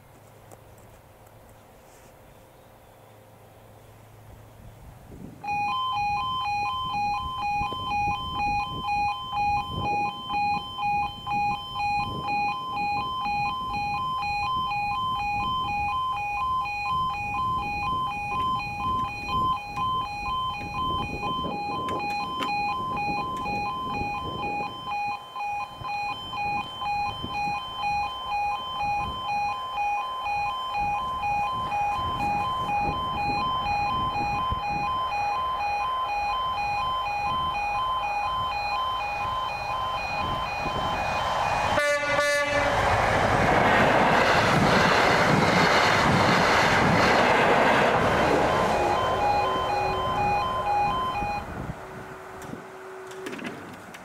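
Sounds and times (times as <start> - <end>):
level crossing alarm two-tone warble: 5.4 - 53.4.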